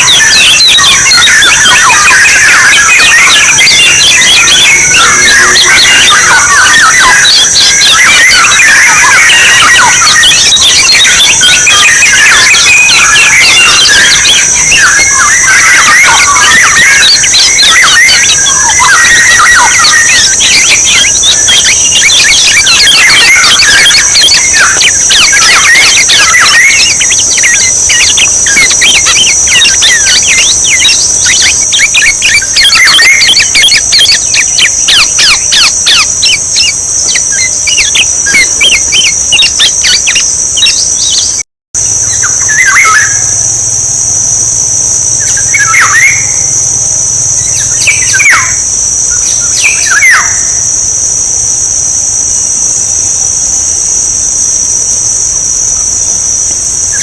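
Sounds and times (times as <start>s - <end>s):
oriole chirps and whistles: 0.0s - 51.6s
high insect buzz: 0.0s - 57.0s.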